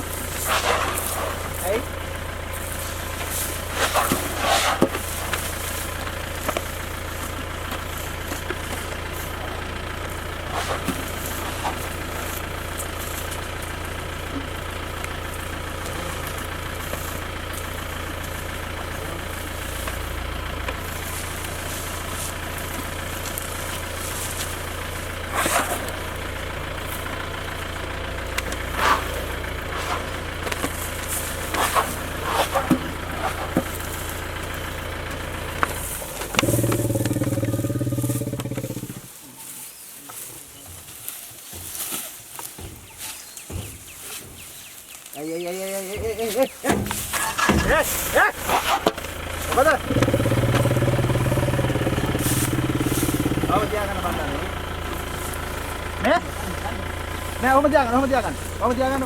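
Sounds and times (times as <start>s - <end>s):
jeep engine idling: 0.0s - 39.4s, 44.6s - 59.0s.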